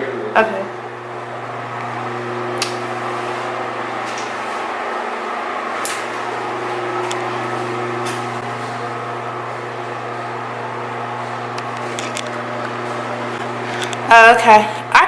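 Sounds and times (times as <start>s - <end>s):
ventilation fan running: 0.0s - 15.0s.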